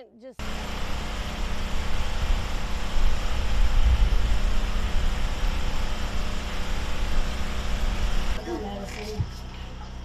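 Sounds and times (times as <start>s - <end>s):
low rumbling noise: 0.4s - 10.0s.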